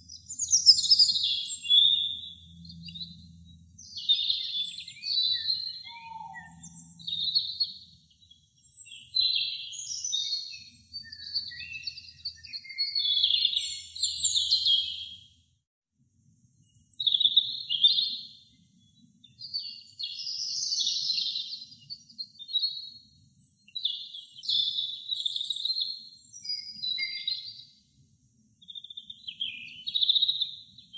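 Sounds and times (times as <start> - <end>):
robin singing: 0.0 - 15.3, 16.2 - 27.8, 28.6 - 30.9.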